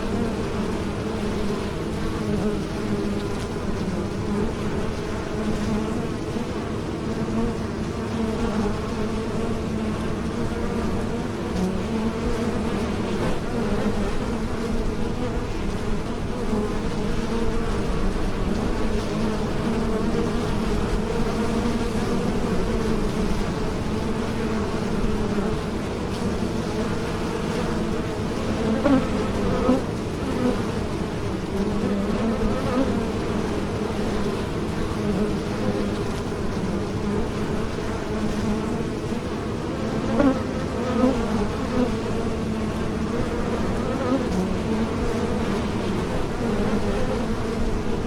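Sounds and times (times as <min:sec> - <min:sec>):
bees buzzing: 0:00.0 - 0:48.0.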